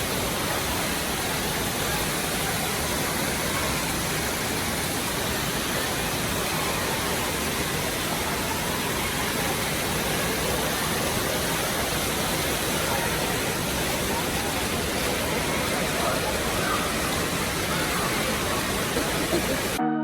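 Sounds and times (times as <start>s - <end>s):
water falling and splashing: 0.0s - 19.8s.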